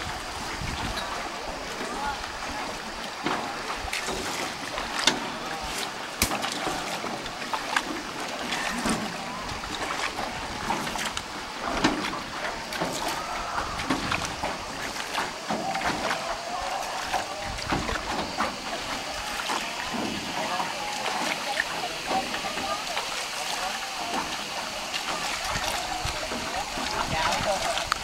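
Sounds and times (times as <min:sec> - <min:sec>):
oar strokes splashing water: 0:00.0 - 0:28.0.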